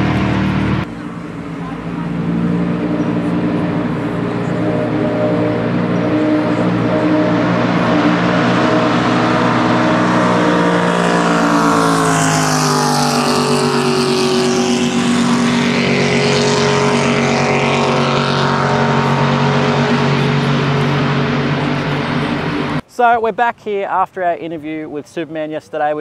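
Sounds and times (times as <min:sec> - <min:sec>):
boat engine running flat out: 0:00.0 - 0:22.8.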